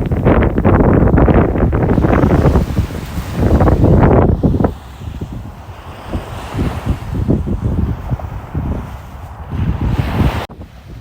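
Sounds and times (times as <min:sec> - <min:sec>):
wind buffeting microphone: 0:00.0 - 0:11.0
ocean waves washing in: 0:01.4 - 0:11.0.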